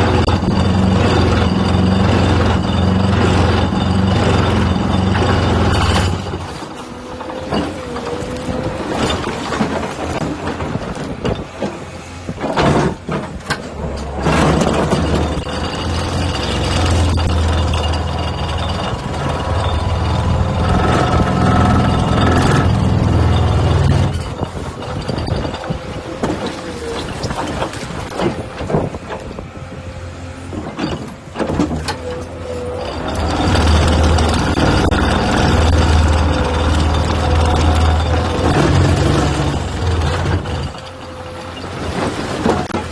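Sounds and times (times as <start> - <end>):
knocks and scrapes: 0.0 - 29.3, 30.5 - 42.9
excavator diesel engine drone: 0.0 - 42.9.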